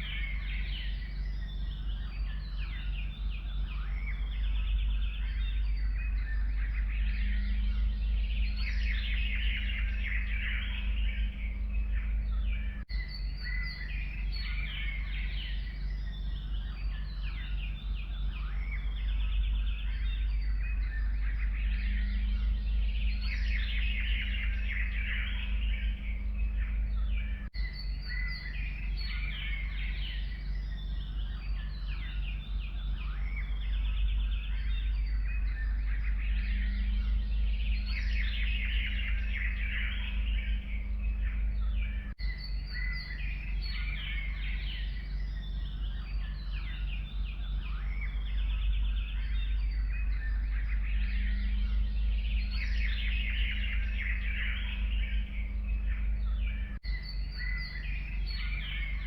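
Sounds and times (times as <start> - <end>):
songbirds chirping and trilling: 0.0 - 59.0
steady low rumble: 0.0 - 59.0.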